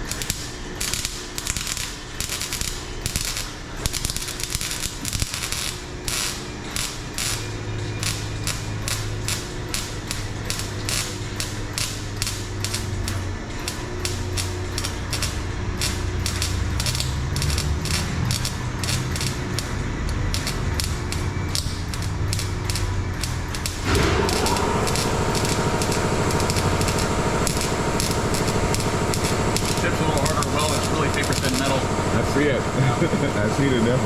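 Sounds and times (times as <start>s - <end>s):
loud steady running sound: 0.0s - 34.0s
low hum: 0.0s - 34.0s
welding crackle: 0.0s - 34.0s.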